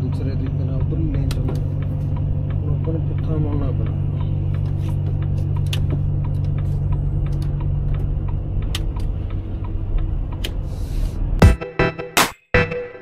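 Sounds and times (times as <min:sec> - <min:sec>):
diesel engine running: 0:00.0 - 0:11.6.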